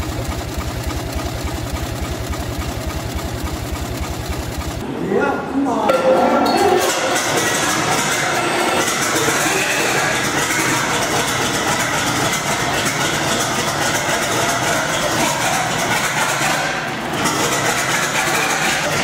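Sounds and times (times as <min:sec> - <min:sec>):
diesel engine running: 0:00.0 - 0:04.8, 0:07.4 - 0:19.0.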